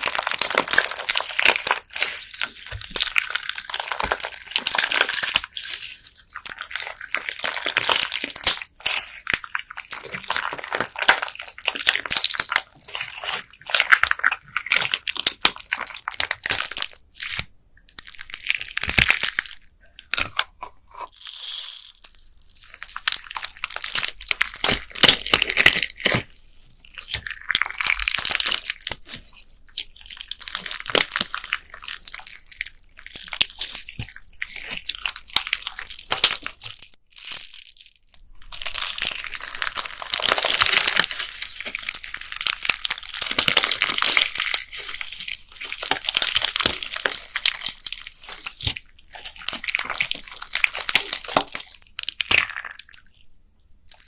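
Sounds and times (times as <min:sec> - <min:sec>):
bead slime crackling: 0:00.0 - 0:19.4, 0:21.4 - 0:53.2.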